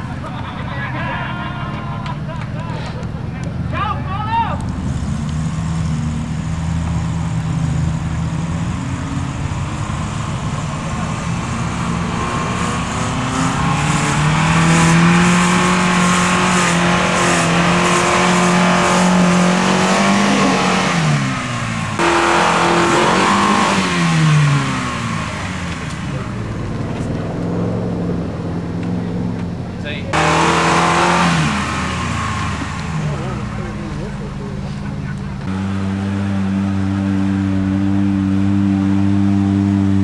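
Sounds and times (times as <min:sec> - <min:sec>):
car engine revving under load: 0:04.6 - 0:40.0.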